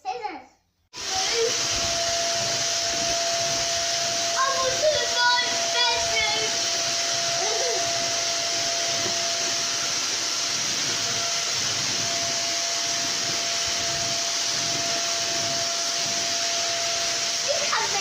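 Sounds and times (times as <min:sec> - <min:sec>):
vacuum cleaner running: 0:01.0 - 0:18.0.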